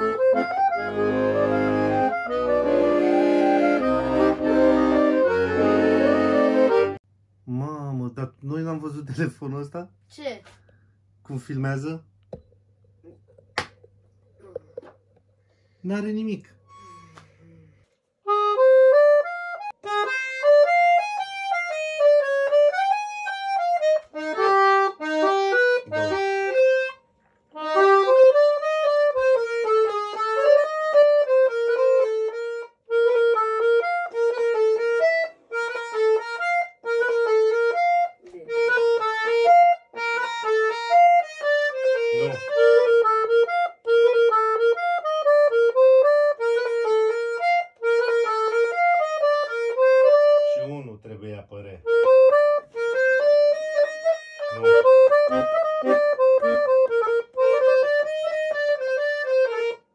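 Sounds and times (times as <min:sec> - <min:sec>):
accordion playing a folk dance melody: 0:00.0 - 0:07.0, 0:16.7 - 0:17.4, 0:18.2 - 0:50.9, 0:51.8 - 0:59.9.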